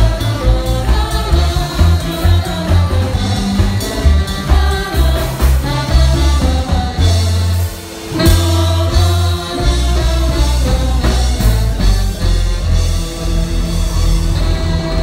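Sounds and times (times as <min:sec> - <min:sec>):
person singing: 0:00.0 - 0:12.7
loud disco music: 0:00.0 - 0:15.0.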